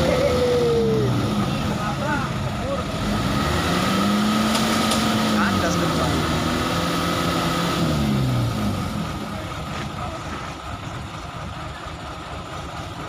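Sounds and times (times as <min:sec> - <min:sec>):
truck engine idling: 0:00.0 - 0:06.6, 0:07.8 - 0:13.0.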